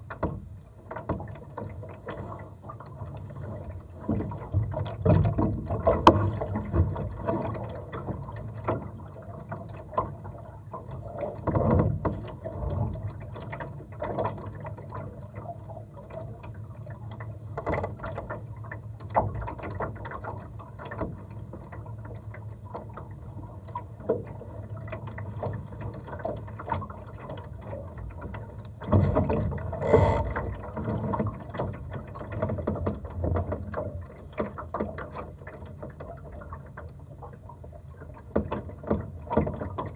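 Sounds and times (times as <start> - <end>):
boat and rigging knocking: 0.0 - 39.9
water lapping against hull: 0.0 - 39.9.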